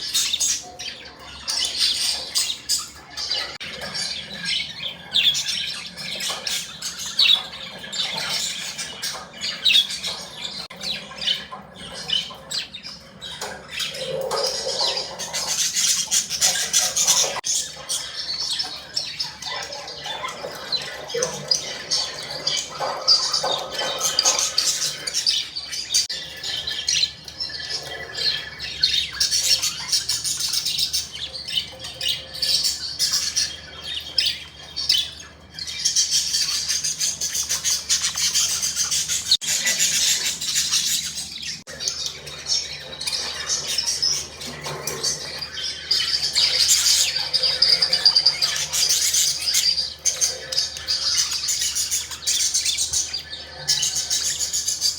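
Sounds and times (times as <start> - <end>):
budgerigars chirping and chattering: 0.0 - 54.9.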